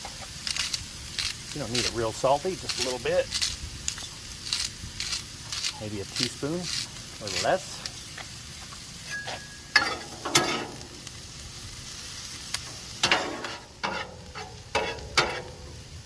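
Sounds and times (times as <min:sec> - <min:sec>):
metal spatula scraping griddle: 0:00.0 - 0:07.8, 0:09.0 - 0:11.1, 0:12.8 - 0:15.8
onions sizzling in grease: 0:00.0 - 0:16.0.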